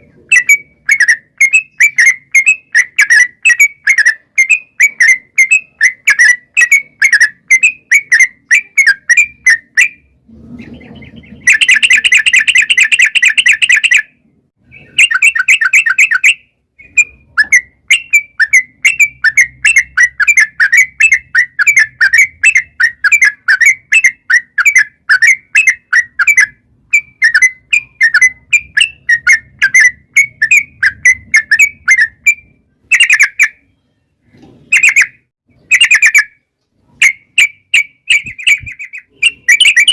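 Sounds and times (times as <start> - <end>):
bulbul singing rapid chirps: 0.0 - 33.7, 34.7 - 36.4, 37.0 - 39.9
bird fast trills: 0.2 - 33.8, 34.7 - 36.4, 37.0 - 39.9.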